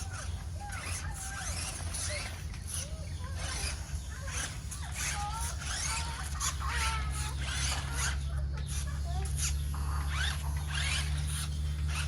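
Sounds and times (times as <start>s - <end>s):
small motor and gear whine: 0.0s - 12.0s
steady low hum: 0.0s - 12.0s.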